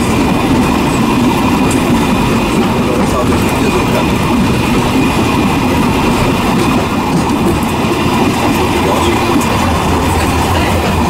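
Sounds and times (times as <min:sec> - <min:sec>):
train carriages rumbling on rails: 0:00.0 - 0:11.0.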